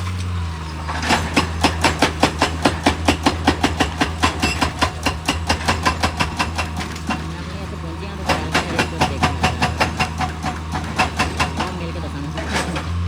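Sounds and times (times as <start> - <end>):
diesel engine drone: 0.0 - 13.0
rapid machine hammering: 1.0 - 12.9.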